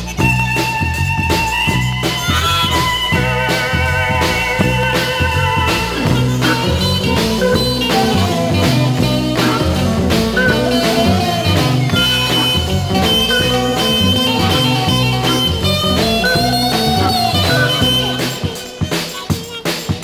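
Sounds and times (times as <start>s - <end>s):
blues instrumental record: 0.0s - 20.0s.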